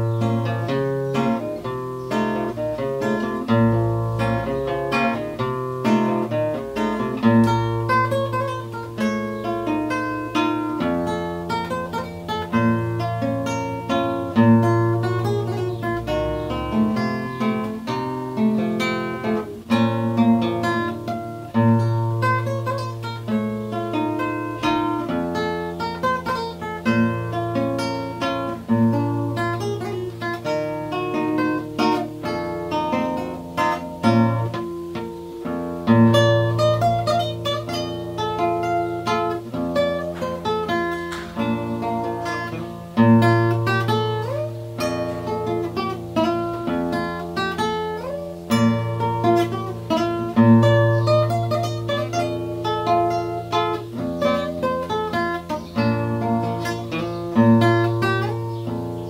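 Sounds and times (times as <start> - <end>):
fingerstyle classical guitar: 0.0 - 59.0.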